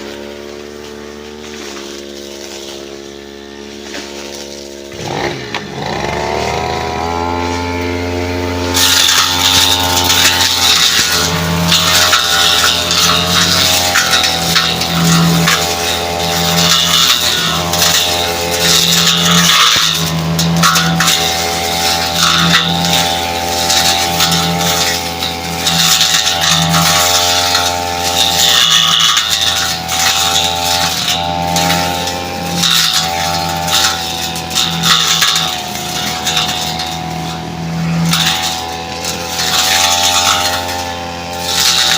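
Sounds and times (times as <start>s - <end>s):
brush cutter engine revving: 0.0s - 41.9s.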